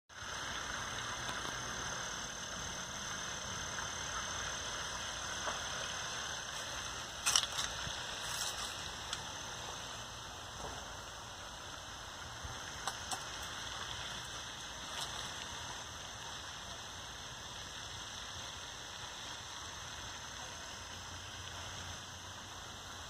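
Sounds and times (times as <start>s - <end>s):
outdoor background hiss: 0.1s - 23.0s.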